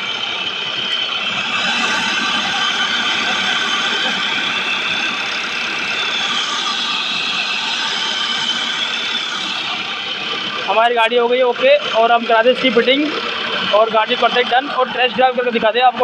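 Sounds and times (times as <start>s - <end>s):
diesel engine idling: 0.0s - 16.0s
high whine: 0.0s - 16.0s.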